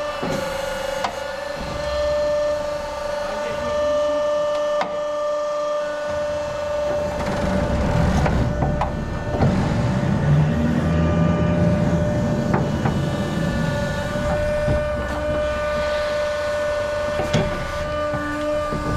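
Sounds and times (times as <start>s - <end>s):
crane drive whine: 0.0s - 18.9s
crane hoist rumble and clunks: 0.0s - 18.9s.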